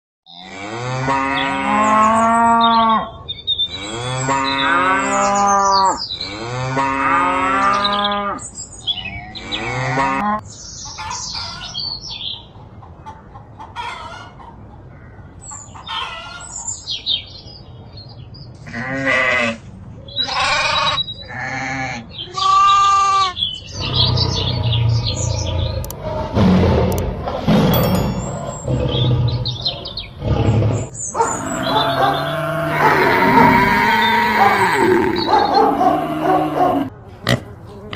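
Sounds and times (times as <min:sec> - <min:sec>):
farm animals calling: 0:00.3 - 0:16.7, 0:18.6 - 0:27.0, 0:28.0 - 0:37.9.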